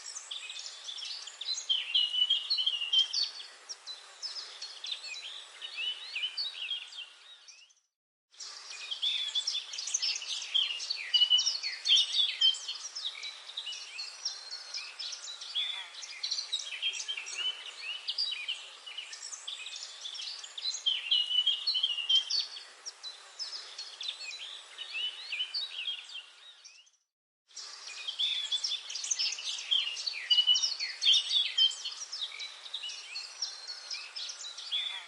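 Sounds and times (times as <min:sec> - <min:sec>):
faint hiss: 0:00.0 - 0:07.4, 0:08.4 - 0:26.5, 0:27.5 - 0:35.0
birds chirping and warbling: 0:00.0 - 0:35.0.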